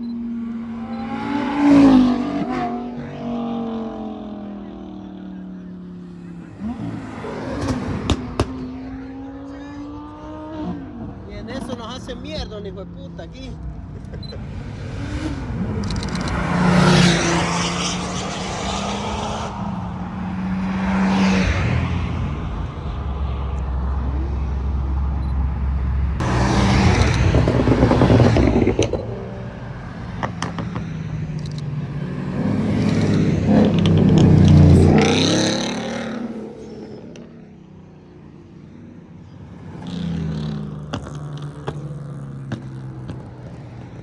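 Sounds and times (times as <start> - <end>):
cars passing and accelerating: 0.0 - 44.0.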